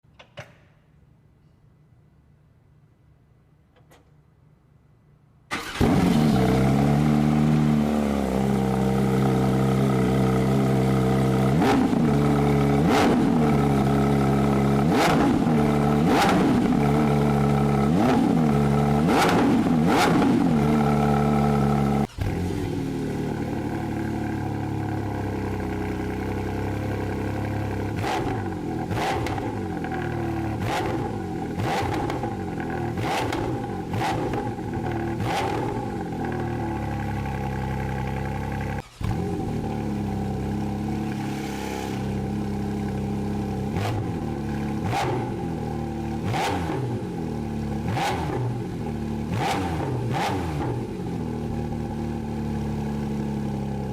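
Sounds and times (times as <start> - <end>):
sports car engine revving: 5.6 - 53.9.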